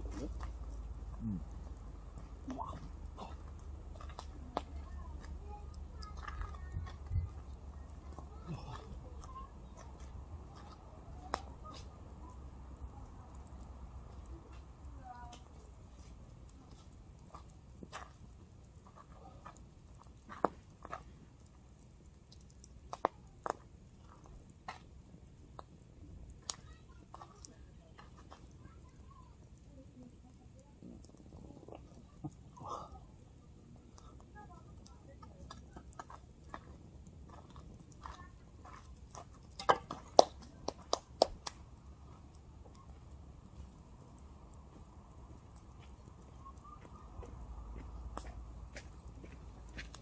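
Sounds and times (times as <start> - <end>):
firewood crackling and popping: 0.0 - 50.0
low steady rumble: 0.0 - 50.0.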